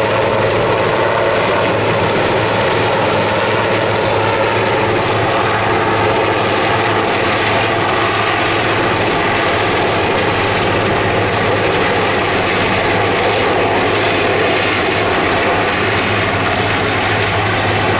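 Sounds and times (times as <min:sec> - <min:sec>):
helicopter rotor and turbine: 0:00.0 - 0:17.9.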